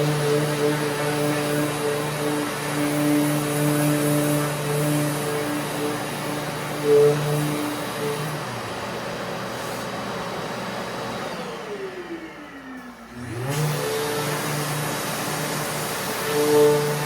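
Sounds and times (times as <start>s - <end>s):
dust extractor humming: 0.0s - 17.0s
sander whirring: 0.0s - 17.0s.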